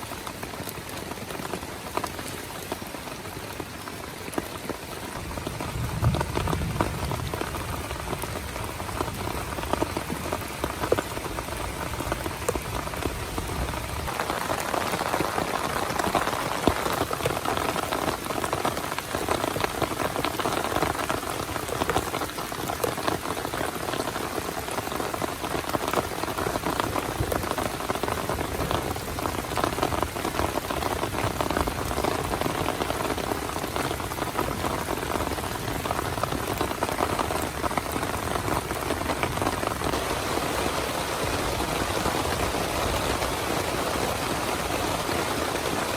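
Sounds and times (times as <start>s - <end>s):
heavy rain on a tent: 0.0s - 45.9s.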